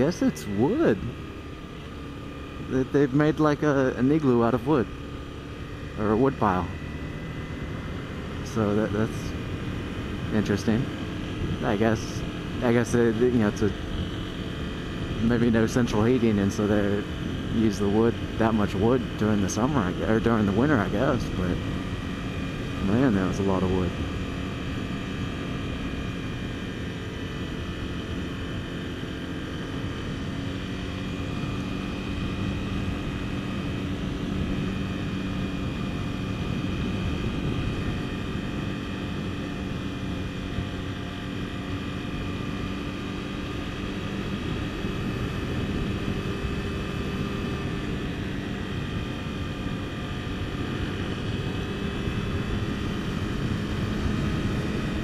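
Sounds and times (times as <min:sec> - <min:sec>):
motorcycle engine running: 0:00.0 - 0:55.0
road noise: 0:00.0 - 0:55.0.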